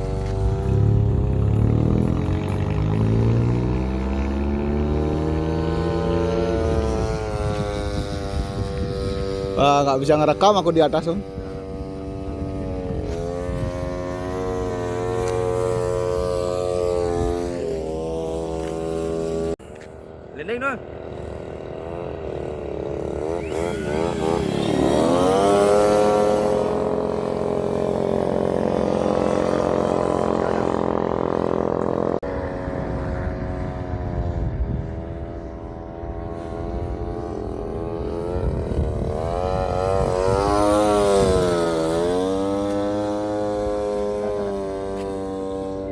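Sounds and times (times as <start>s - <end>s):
model airplane engine: 0.0s - 45.9s.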